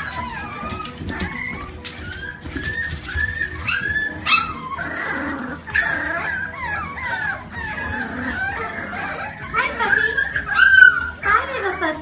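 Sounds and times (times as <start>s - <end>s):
background music: 0.0s - 12.0s
dog whining and yipping: 0.0s - 12.0s.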